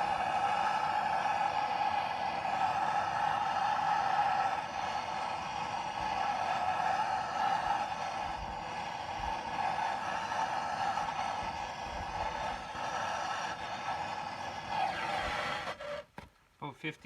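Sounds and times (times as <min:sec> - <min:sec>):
small blower motor whirring: 0:00.0 - 0:16.4.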